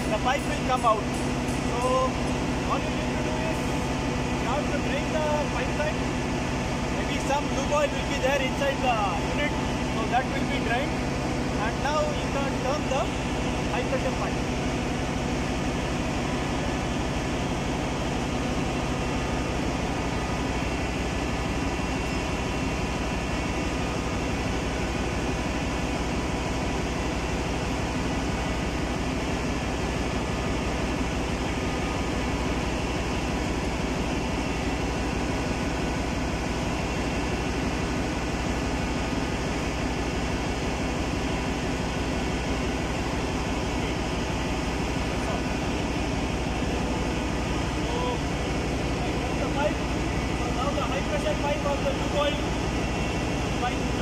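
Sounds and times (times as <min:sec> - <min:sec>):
engine room machinery drone: 0:00.0 - 0:54.0.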